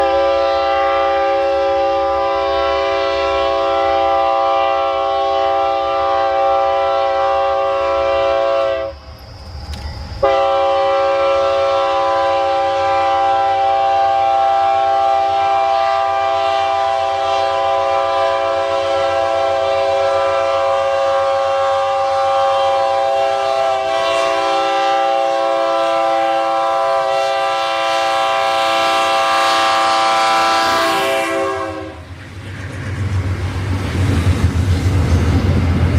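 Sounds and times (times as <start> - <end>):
locomotive air horn: 0.0 - 9.0, 10.2 - 32.1.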